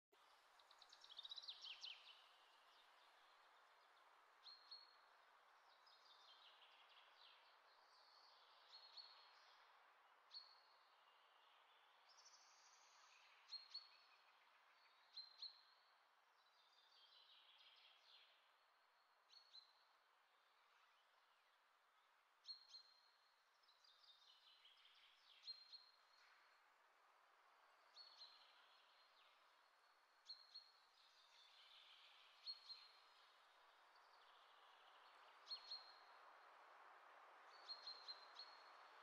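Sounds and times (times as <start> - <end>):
soft steady hiss: 0.1 - 39.0
faint birdsong chirps: 0.2 - 39.0.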